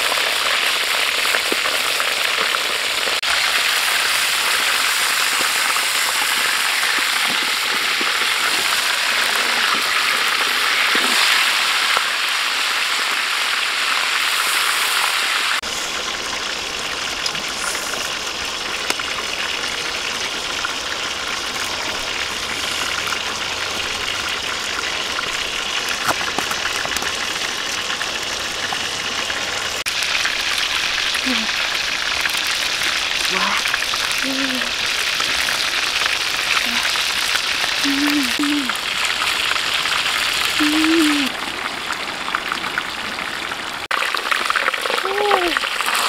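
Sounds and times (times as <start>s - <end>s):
hot oil sizzling loudly: 0.0s - 46.0s.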